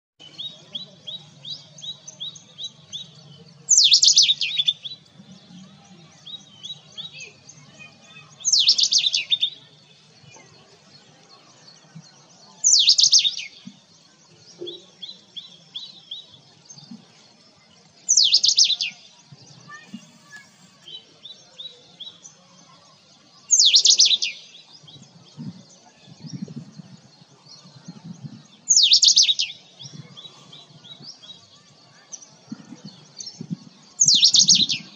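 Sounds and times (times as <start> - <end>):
robin singing: 0.2 - 34.9.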